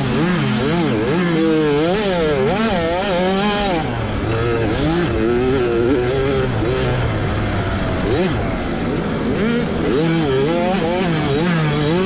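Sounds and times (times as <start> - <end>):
two-stroke motorbike engine revving: 0.0 - 12.0.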